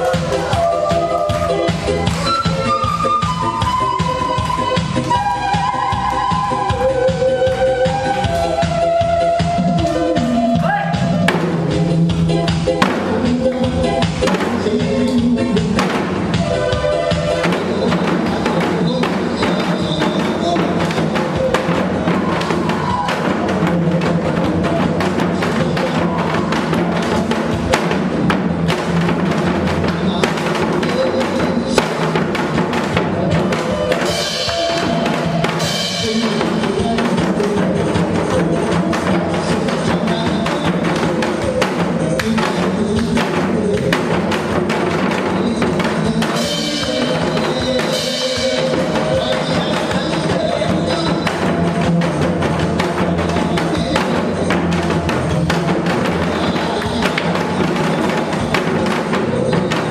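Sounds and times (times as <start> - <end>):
hourglass drums struck rhythmically: 0.0 - 3.0, 9.6 - 59.9
accompanying music: 0.0 - 59.9.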